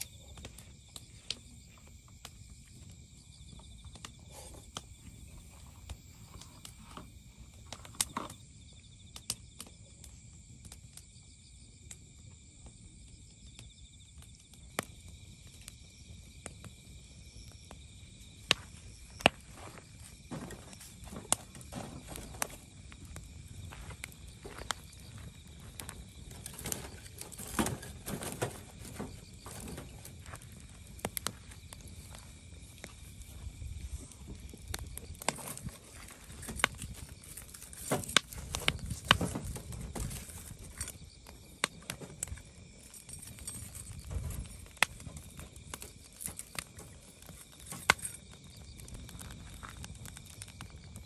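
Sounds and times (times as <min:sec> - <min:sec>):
insects trilling: 0:00.0 - 0:51.0
wood fire crackling and popping: 0:00.0 - 0:51.0.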